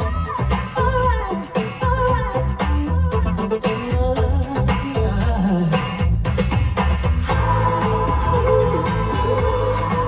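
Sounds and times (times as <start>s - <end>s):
music with bass beat: 0.0s - 10.0s.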